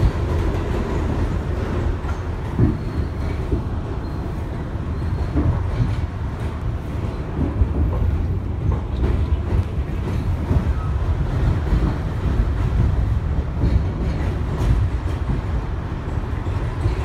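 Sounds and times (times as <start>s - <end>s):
train clatter: 0.0s - 17.0s
train wheels rumbling on rail: 0.0s - 17.0s.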